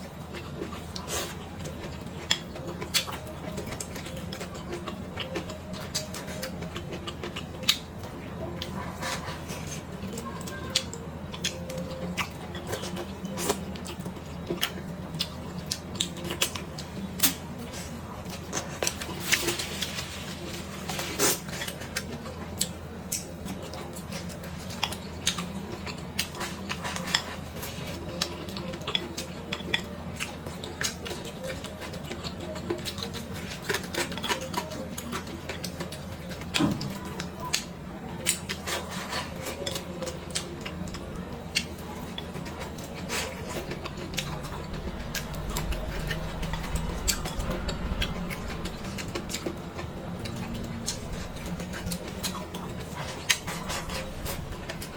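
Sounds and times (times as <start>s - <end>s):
chewing: 0.0s - 54.9s
steady low hum: 0.0s - 54.9s.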